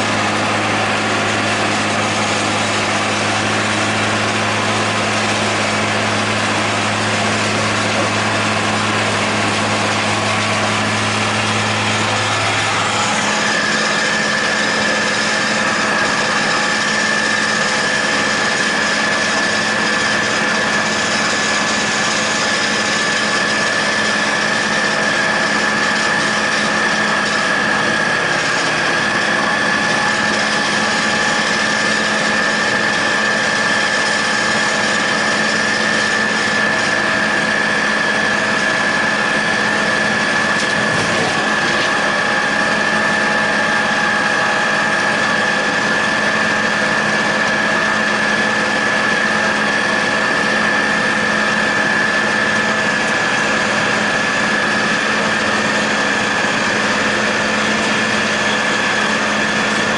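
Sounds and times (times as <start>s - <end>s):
high whine: 0.0s - 59.9s
mower running: 0.0s - 59.9s
tractor diesel engine running: 0.0s - 59.9s.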